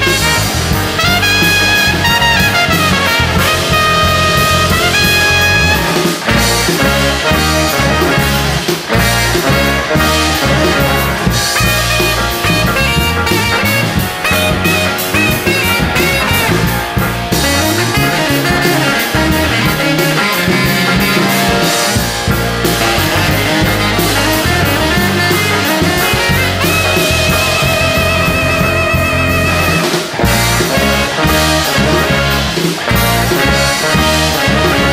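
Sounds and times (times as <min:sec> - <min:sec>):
rock band playing: 0:00.0 - 0:34.9
saxophone solo: 0:00.0 - 0:34.9.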